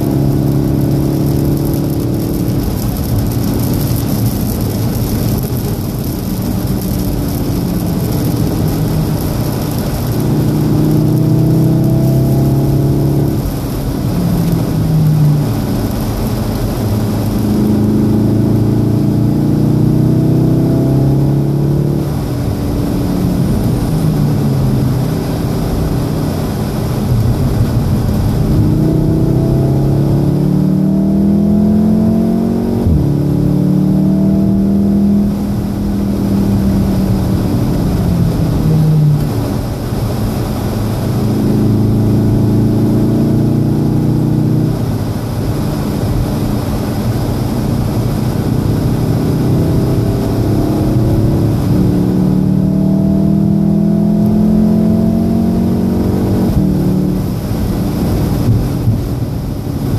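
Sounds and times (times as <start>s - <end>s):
car engine accelerating: 0.0s - 59.9s
tyre noise on wet track: 0.0s - 59.9s.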